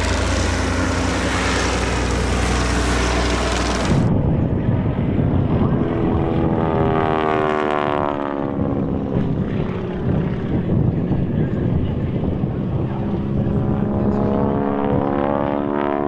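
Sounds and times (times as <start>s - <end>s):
propeller engines droning: 0.0s - 16.0s
propeller plane passing by: 0.0s - 16.0s.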